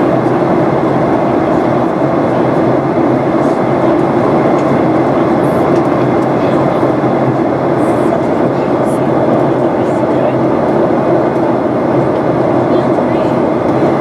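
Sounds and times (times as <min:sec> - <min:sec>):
jet engine hum in cabin: 0:00.0 - 0:14.0.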